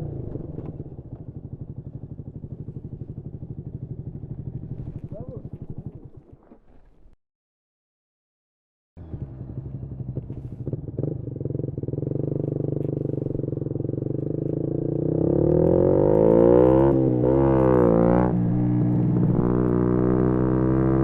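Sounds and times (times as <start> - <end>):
motorcycle engine revving: 0.0 - 6.3, 9.0 - 21.0.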